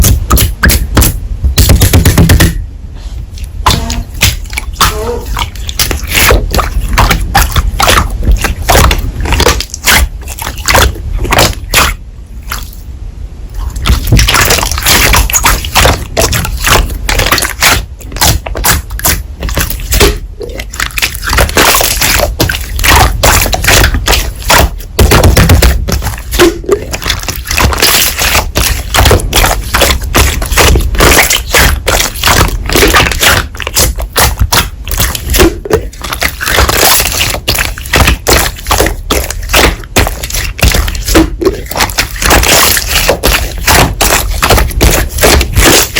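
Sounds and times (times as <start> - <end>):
slime squishing: 0.0 - 2.6, 3.3 - 12.9, 13.5 - 45.9.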